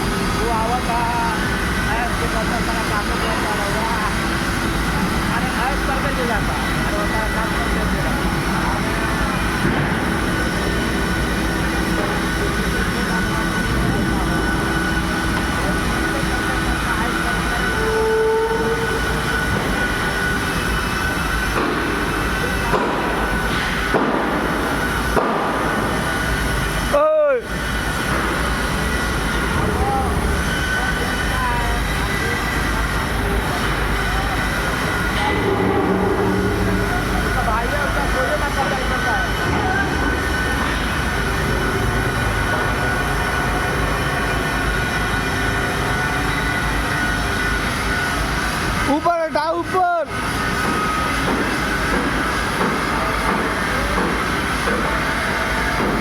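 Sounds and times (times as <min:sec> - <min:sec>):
crane machinery rumble: 0:00.0 - 0:56.0
high steady whine: 0:00.0 - 0:56.0.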